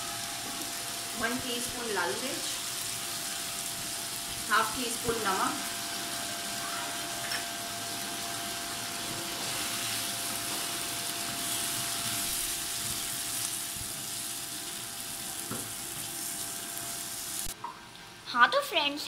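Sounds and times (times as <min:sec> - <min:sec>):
potatoes sizzling in oil: 0:00.0 - 0:17.6.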